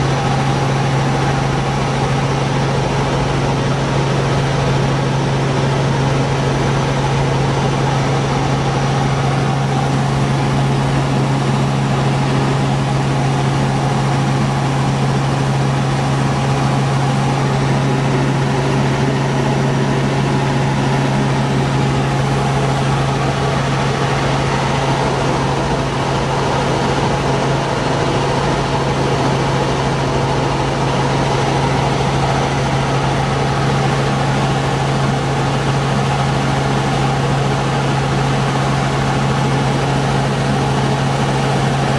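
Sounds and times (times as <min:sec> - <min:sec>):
helicopter engine and rotor noise: 0:00.0 - 0:41.9.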